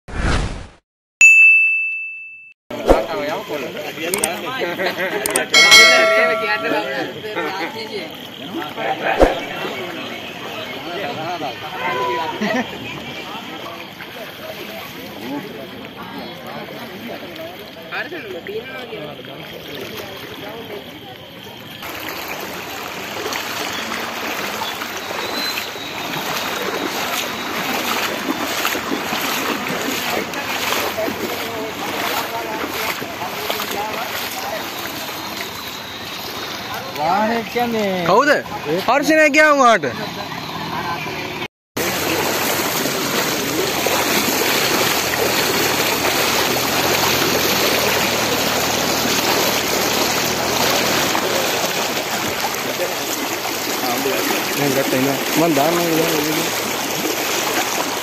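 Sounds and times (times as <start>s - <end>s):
floodwater rushing: 2.8s - 58.0s.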